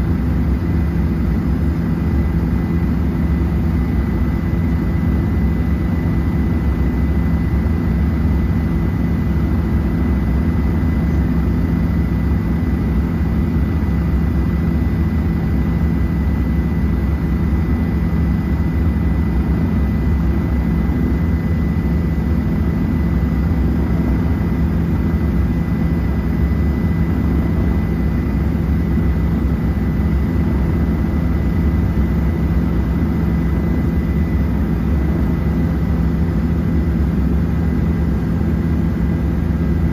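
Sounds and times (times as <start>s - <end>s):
helicopter engine and rotor drone: 0.0s - 39.9s
thin steady whine: 0.0s - 39.9s.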